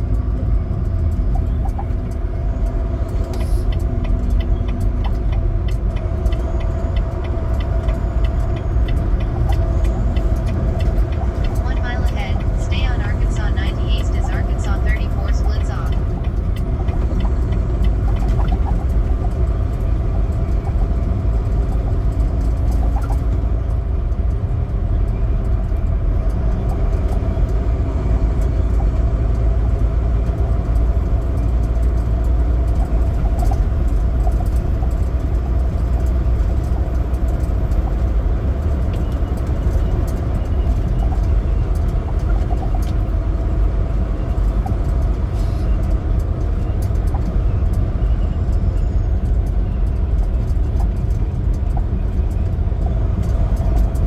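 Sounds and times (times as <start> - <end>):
road and tyre noise: 0.0 - 54.0
truck engine drone: 0.0 - 54.0.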